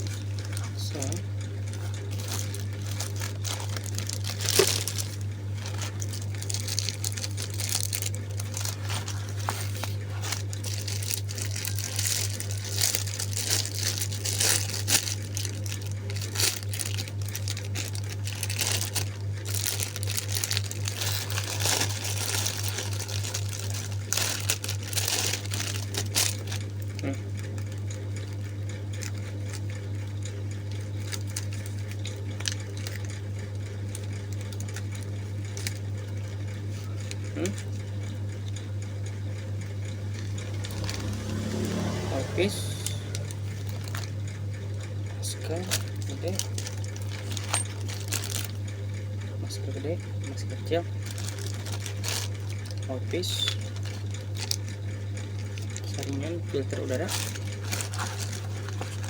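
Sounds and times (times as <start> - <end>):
plastic packaging crinkling: 0.0 - 29.9, 30.5 - 38.0, 40.1 - 48.8, 50.3 - 59.0
steady low hum: 0.0 - 59.0.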